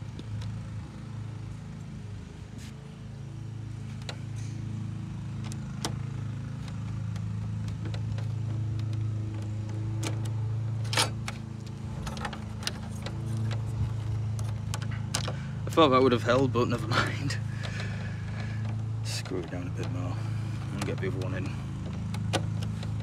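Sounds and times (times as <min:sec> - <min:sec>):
low engine-like drone: 0:00.0 - 0:23.0.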